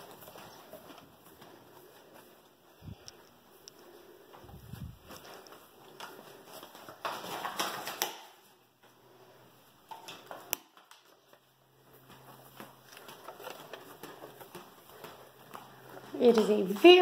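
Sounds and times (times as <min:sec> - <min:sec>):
quiet footsteps: 0:00.0 - 0:17.0.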